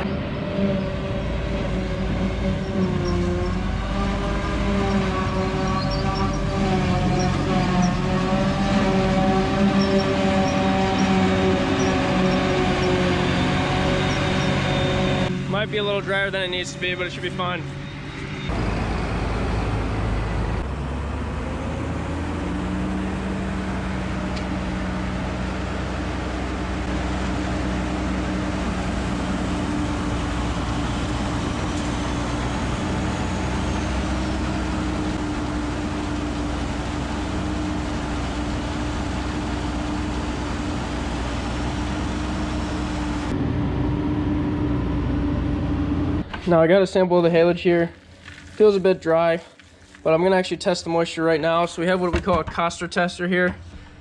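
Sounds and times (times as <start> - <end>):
tractor engine droning: 0.0 - 52.6.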